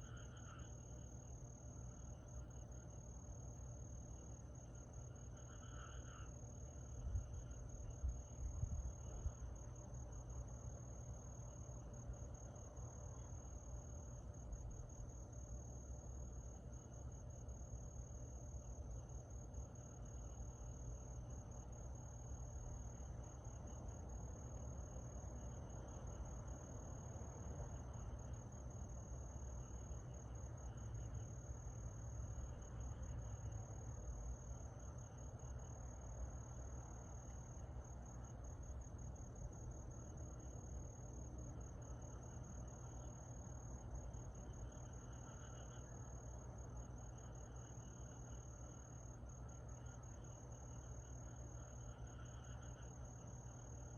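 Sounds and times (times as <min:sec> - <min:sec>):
high steady insect trill: 0:00.0 - 0:53.9
soft pulsing cricket chirp: 0:00.0 - 0:53.9.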